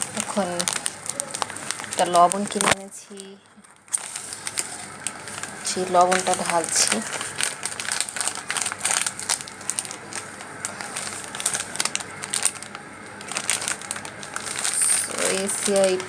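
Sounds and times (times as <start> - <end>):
plastic packet crinkling: 0.0 - 16.0.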